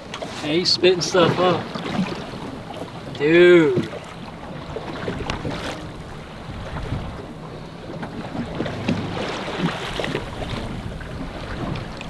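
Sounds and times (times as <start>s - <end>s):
water lapping around a boat: 0.0s - 12.0s
wind buffeting microphone: 0.0s - 12.0s.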